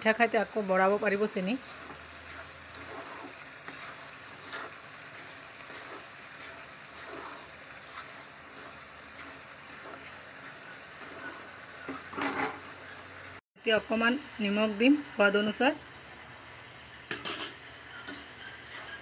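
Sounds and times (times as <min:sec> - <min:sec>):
spatula scraping in a pan: 0:00.0 - 0:13.4, 0:17.1 - 0:19.0.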